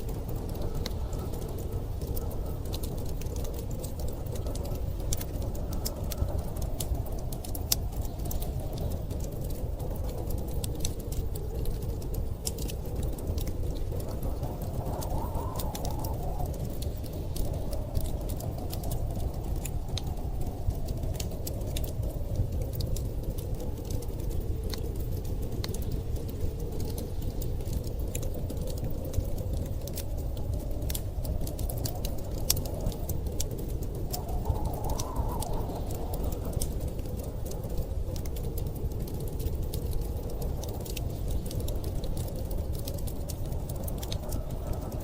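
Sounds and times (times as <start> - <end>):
storm wind rushing: 0.0 - 45.0
wood fire crackling and popping: 0.0 - 45.0.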